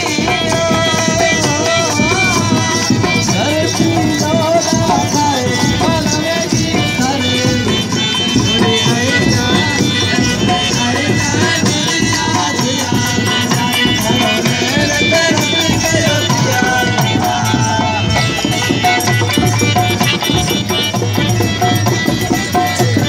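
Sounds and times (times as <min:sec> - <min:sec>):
folk melody: 0:00.0 - 0:23.0
steady drumming: 0:00.0 - 0:23.0.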